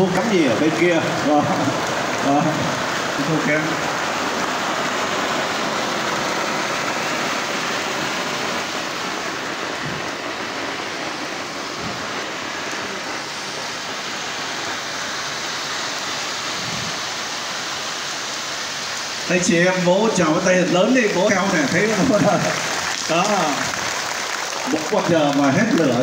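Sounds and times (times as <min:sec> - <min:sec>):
spark fountains hissing: 0:00.0 - 0:26.0.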